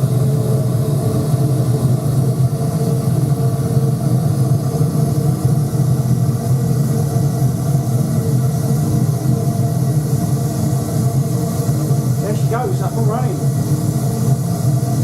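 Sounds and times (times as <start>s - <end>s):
furnace burner flame rumble: 0.0s - 15.0s.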